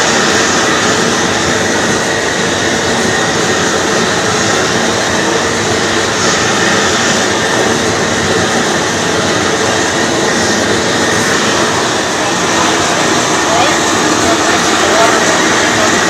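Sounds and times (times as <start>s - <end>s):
gas torches burning: 0.0s - 16.0s.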